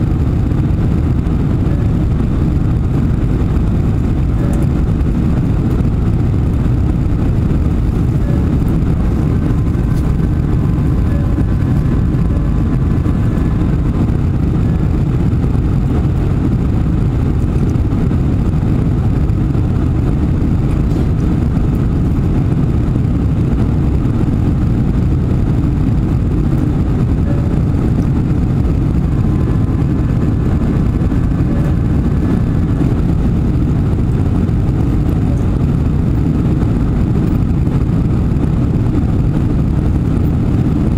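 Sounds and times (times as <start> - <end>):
faint whining tones: 0.0 - 40.9
jet engine and air rush: 0.0 - 40.9.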